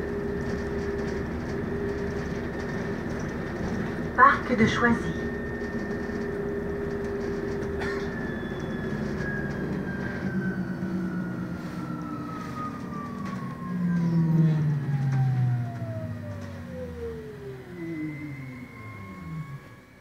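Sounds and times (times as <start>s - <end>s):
electric bus drive whine: 0.0s - 20.0s
low rumble: 0.0s - 20.0s.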